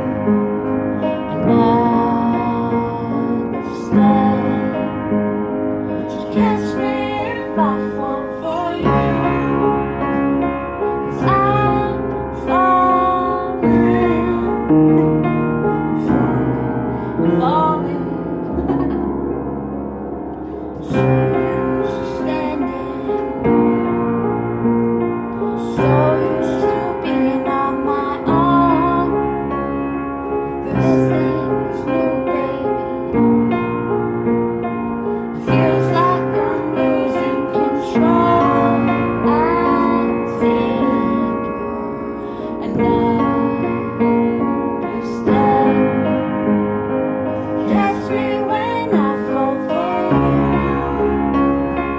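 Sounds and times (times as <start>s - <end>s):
woman singing: 0.0s - 10.0s, 11.0s - 19.0s, 20.8s - 24.0s, 25.4s - 29.7s, 30.4s - 33.5s, 35.2s - 46.6s, 47.4s - 51.9s
piano playing slow chords: 0.0s - 51.9s.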